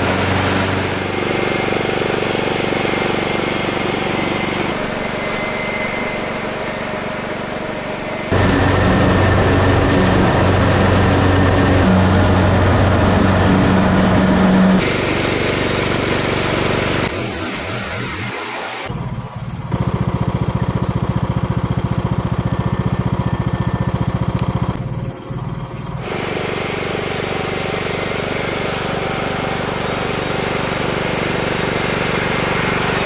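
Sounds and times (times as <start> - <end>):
mower cutting tall grass: 0.0 - 19.0, 19.7 - 33.0
riding lawn mower engine: 0.0 - 33.0.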